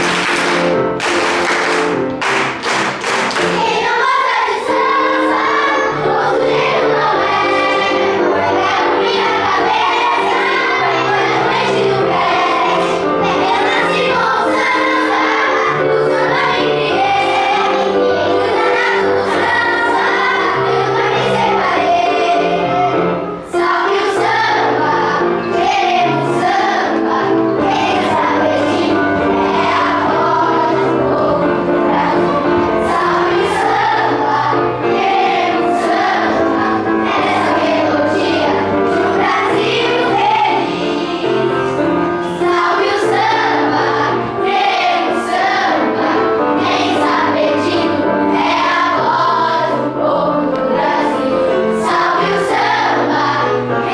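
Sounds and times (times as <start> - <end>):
children's choir singing: 0.0 - 53.9.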